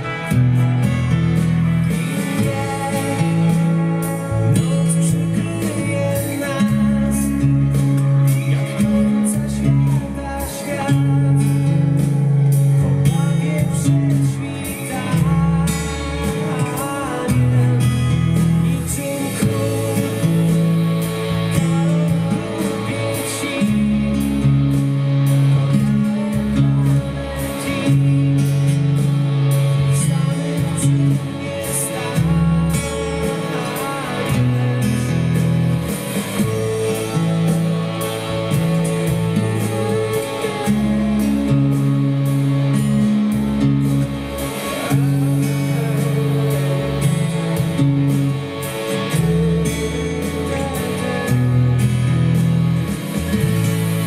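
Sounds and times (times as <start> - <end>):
acoustic guitar strumming: 0.0 - 54.0
recorded rock song with vocals: 0.0 - 54.0.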